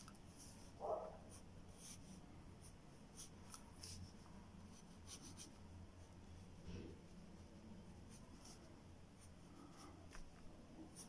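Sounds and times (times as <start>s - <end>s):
pencil scratching on paper: 0.4s - 10.2s.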